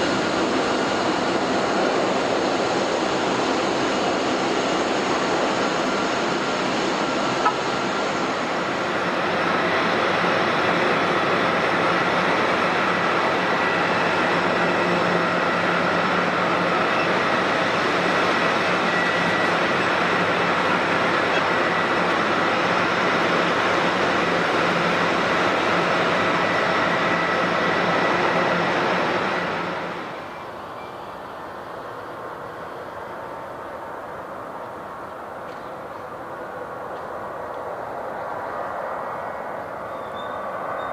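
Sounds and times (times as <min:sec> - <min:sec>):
faint high engine whine: 0:00.0 - 0:40.9
jet engines rushing: 0:00.0 - 0:40.9.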